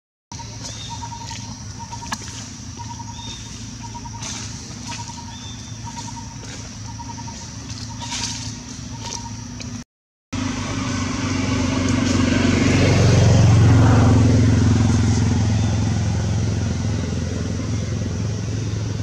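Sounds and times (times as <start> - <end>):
low motor hum: 0.3 - 19.0.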